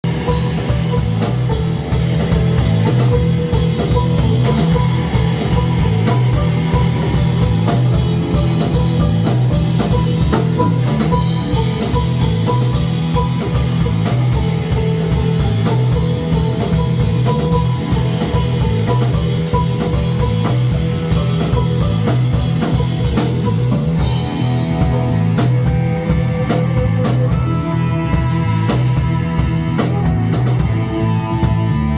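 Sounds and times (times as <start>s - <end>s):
bass guitar: 0.0s - 31.9s
drum kit beat: 0.0s - 31.9s
electric guitar: 0.0s - 31.9s.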